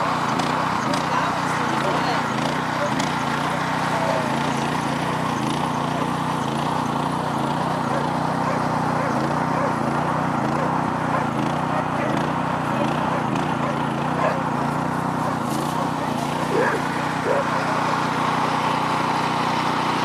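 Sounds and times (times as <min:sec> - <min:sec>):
low engine hum: 0:00.0 - 0:20.0
outdoor noise: 0:00.0 - 0:20.0.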